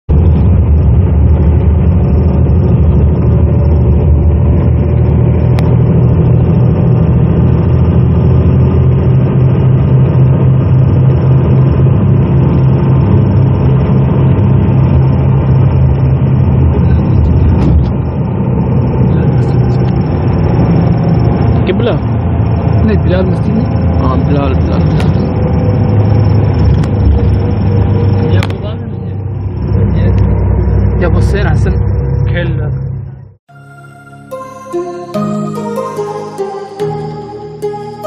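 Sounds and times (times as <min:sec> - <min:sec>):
bus engine hum and road rumble: 0:00.1 - 0:38.0.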